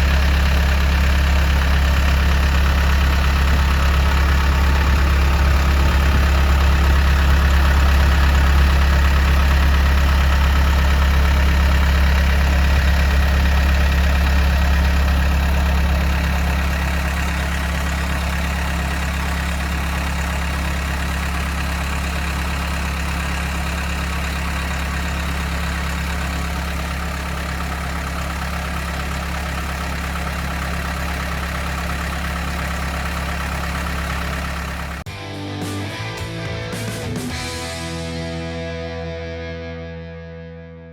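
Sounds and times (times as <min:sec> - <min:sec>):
diesel engine idling: 0:00.0 - 0:39.2.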